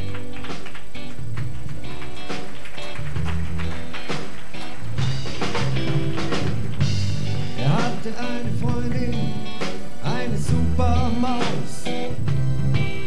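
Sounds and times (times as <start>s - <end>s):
lively music with bass line: 0.0s - 13.0s.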